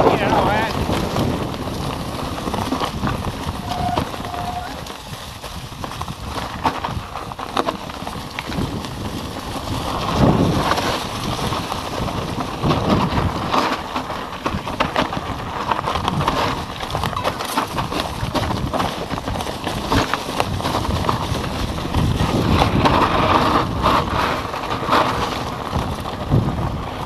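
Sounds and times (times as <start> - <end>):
bike frame and chain clattering: 0.0 - 27.0
bike tyres crunching over stones: 0.0 - 27.0.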